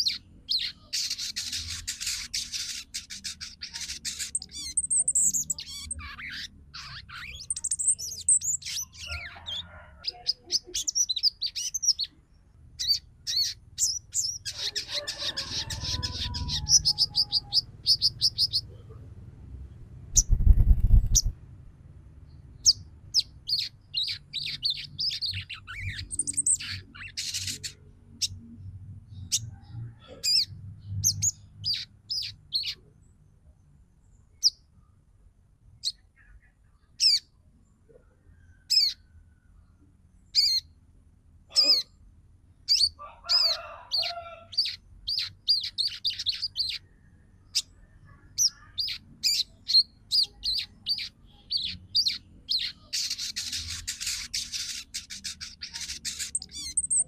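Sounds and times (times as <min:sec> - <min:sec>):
bird twittering chirps and trills: 0:00.0 - 0:21.4, 0:22.2 - 0:34.9, 0:35.8 - 0:37.4, 0:38.5 - 0:39.2, 0:40.2 - 0:40.8, 0:41.5 - 0:57.0.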